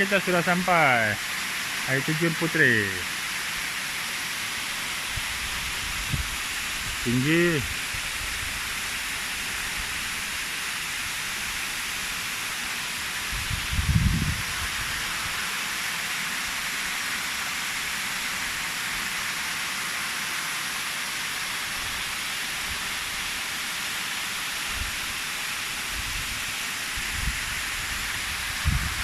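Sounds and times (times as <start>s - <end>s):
waterfall pouring and splashing: 0.0s - 29.0s.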